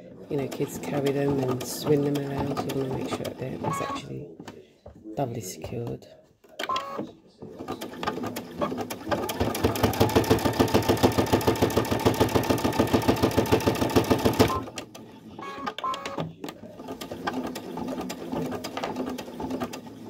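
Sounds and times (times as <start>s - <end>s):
sewing machine stitching: 0.2s - 4.2s, 6.6s - 20.0s.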